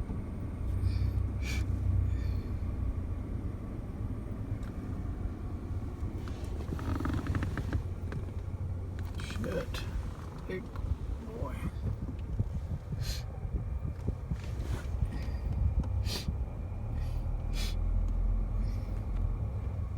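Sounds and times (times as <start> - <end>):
car engine and road rumble: 0.0 - 19.9.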